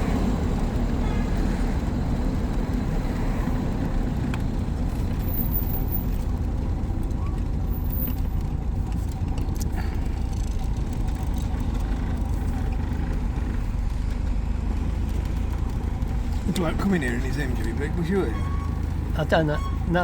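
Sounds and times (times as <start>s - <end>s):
car engine rumble inside cabin: 0.0s - 20.0s.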